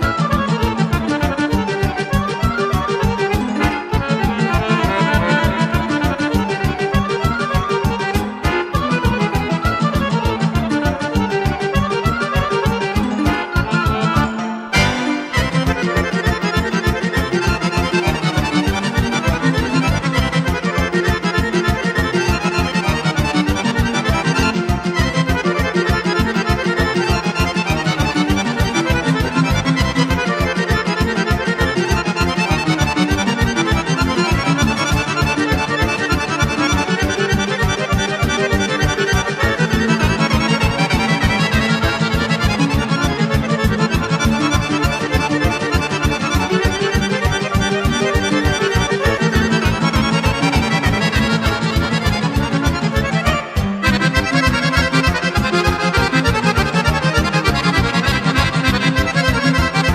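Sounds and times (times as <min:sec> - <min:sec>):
accordion melody: 0:00.0 - 0:59.9
band playing fast beat: 0:00.1 - 0:59.9.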